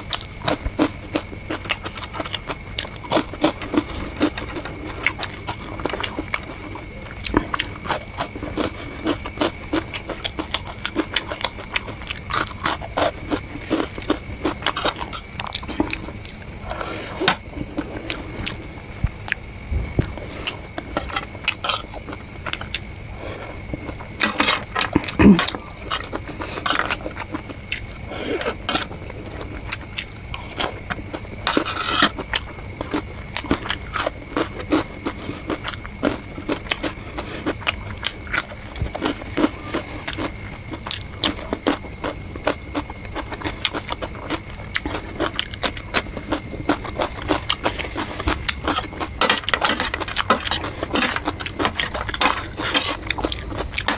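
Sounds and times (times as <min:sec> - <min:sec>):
crunching and chewing snacks: 0:00.0 - 0:53.9.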